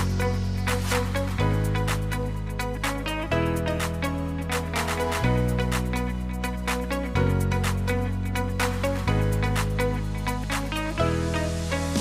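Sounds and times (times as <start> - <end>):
electronic synth chords: 0.0 - 12.0.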